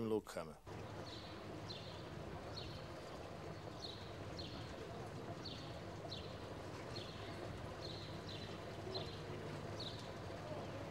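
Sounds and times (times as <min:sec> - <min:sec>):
low outdoor ambient hum: 0:00.0 - 0:10.9.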